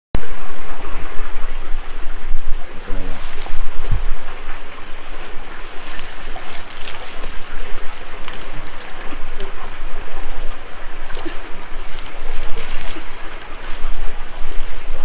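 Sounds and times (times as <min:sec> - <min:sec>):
leaves rustling: 0:01.6 - 0:15.0
river rushing: 0:02.7 - 0:15.0
footsteps in undergrowth: 0:02.8 - 0:15.0.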